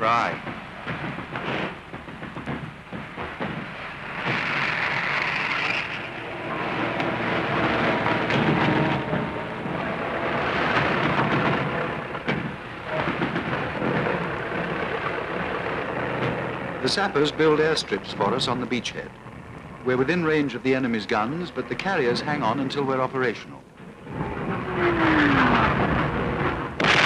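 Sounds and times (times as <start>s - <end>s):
sharp crack: 0.0s - 22.2s, 24.8s - 27.0s
engines rumbling: 0.0s - 27.0s.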